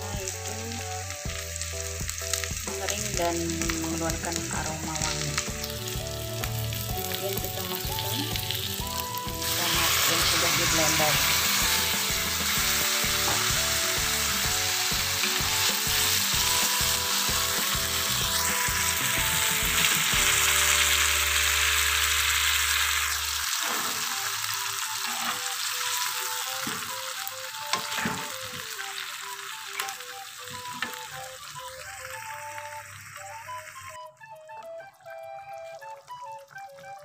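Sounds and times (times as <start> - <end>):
tomato sizzling in hot oil: 0.0 - 34.0
background music: 0.0 - 37.0.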